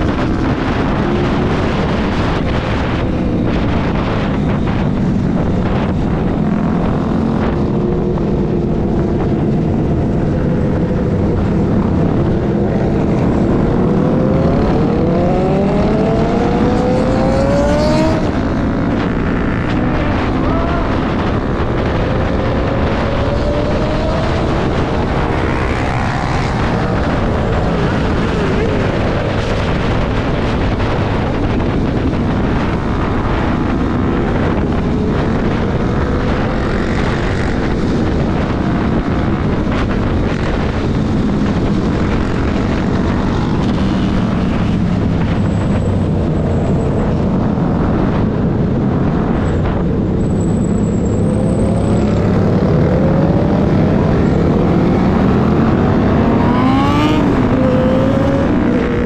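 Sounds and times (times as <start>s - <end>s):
dirt bike engine running hard: 0.0s - 59.0s
wind rush over microphone: 0.0s - 59.0s.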